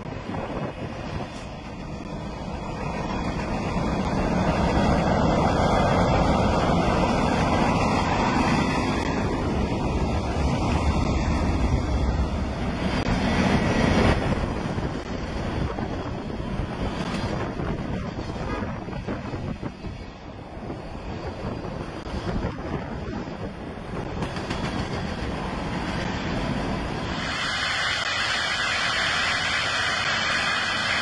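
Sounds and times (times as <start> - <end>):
freight train wheels rumbling on rail: 0.0 - 31.0.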